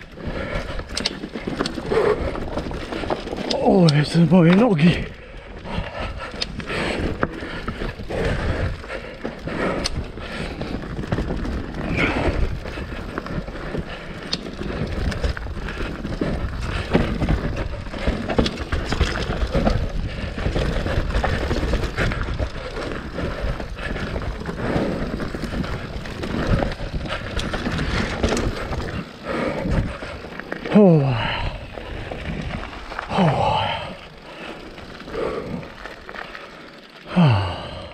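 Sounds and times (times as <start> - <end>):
bike knocking and rattling: 0.0 - 37.7
bike tyres rumbling over dirt: 0.0 - 37.9.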